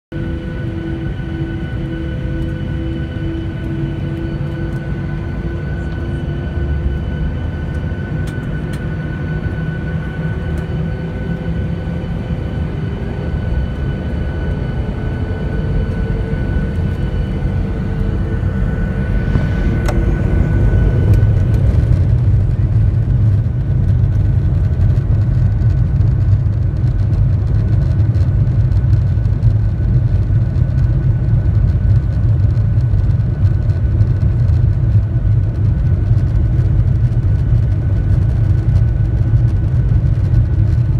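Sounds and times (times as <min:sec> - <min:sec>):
deep engine rumble: 0:00.1 - 0:40.9
jet engine hum with whine: 0:00.1 - 0:40.9.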